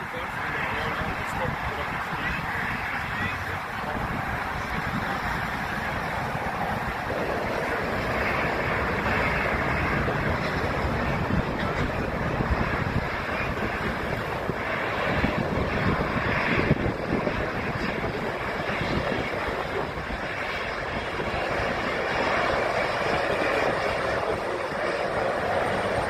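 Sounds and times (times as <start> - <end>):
jet engines whooshing: 0.0 - 26.0
wind buffeting microphone: 0.0 - 26.0.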